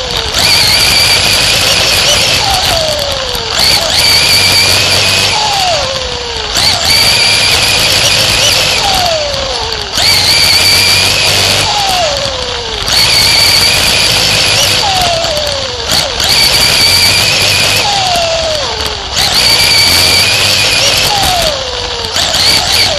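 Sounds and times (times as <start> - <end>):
race car engine revving: 0.0 - 22.9.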